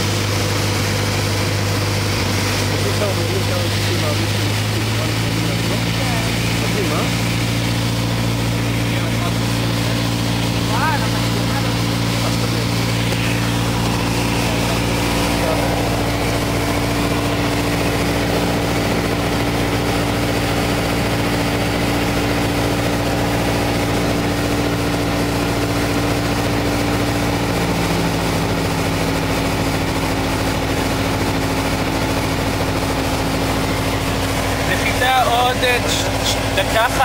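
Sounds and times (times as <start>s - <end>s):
airplane engine and propeller droning: 0.0s - 37.0s.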